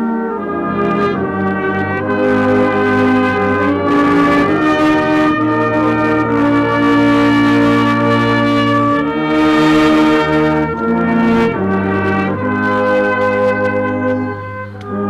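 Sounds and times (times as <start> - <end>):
brass band playing slow chords: 0.0 - 15.0.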